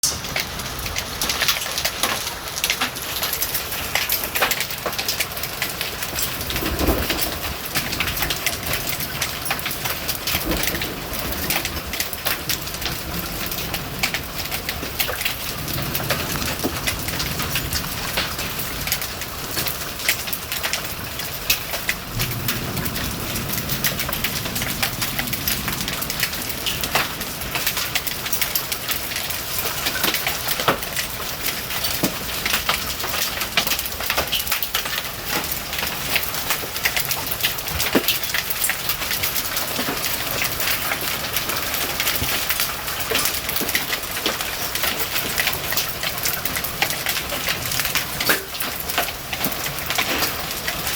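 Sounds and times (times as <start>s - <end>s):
hailstones clattering on hard surfaces: 0.0s - 50.9s.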